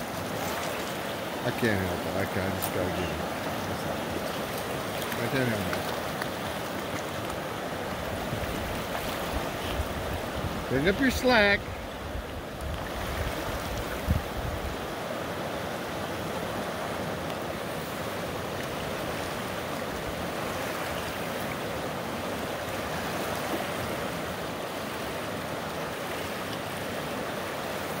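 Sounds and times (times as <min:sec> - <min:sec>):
river water rushing over rocks: 0:00.0 - 0:28.0.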